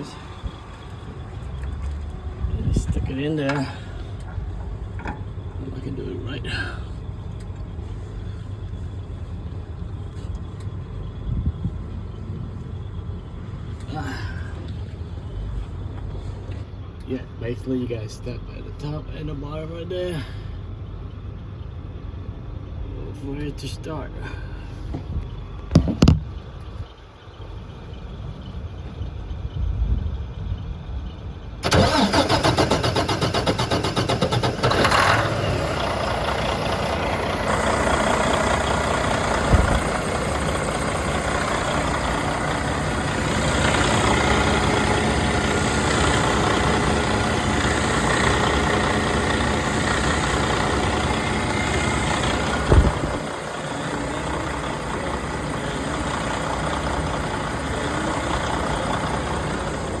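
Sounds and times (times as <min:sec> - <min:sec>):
diesel engine cranking and idling: 0:00.0 - 1:00.0.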